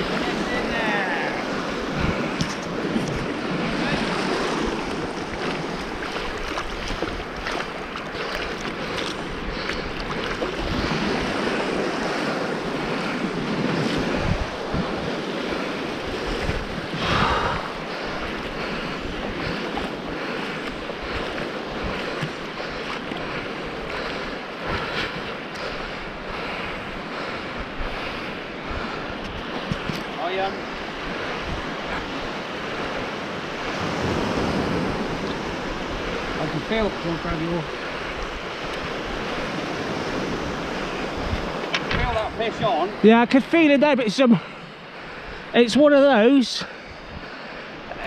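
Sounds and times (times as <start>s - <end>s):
wind buffeting microphone: 0.0s - 43.5s, 44.3s - 48.0s
sea waves breaking on beach: 0.0s - 48.0s.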